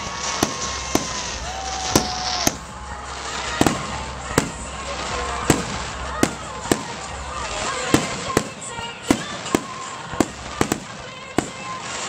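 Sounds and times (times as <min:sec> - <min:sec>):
constant hiss: 0:00.0 - 0:12.0
firework shells bursting: 0:00.0 - 0:12.0.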